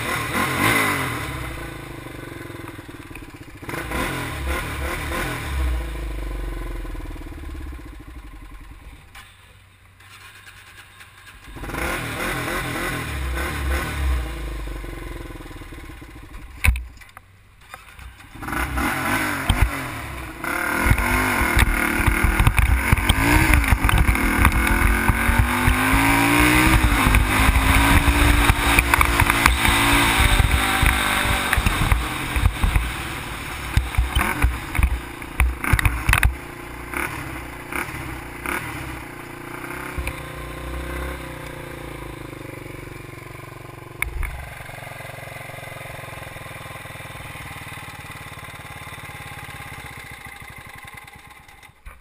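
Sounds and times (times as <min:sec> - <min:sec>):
quad engine revving: 0:00.0 - 0:08.2, 0:10.0 - 0:16.4, 0:18.1 - 0:51.8.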